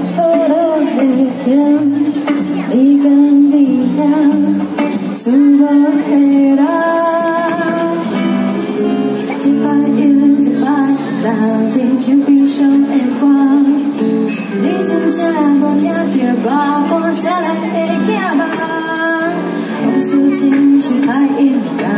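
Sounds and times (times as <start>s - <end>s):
acoustic guitar strumming: 0.0s - 21.9s
backing band playing: 0.0s - 21.9s
woman singing: 0.0s - 21.9s.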